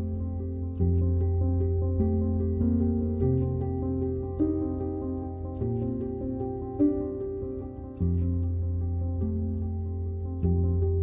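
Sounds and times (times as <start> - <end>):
slow soft piano: 0.0 - 11.0.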